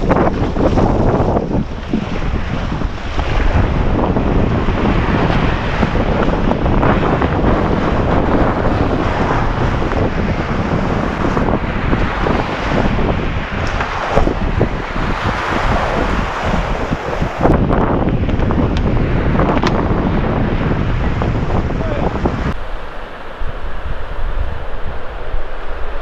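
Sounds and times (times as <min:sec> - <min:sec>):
waves washing onto beach: 0:00.0 - 0:26.0
wind buffeting microphone: 0:00.0 - 0:26.0.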